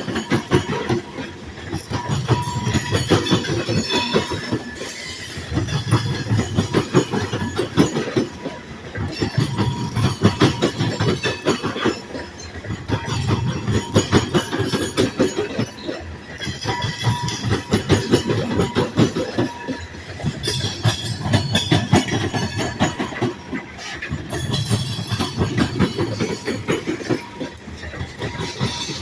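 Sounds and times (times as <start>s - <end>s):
train rumble: 0.0s - 29.0s
wheels clacking over rail joints: 0.0s - 29.0s.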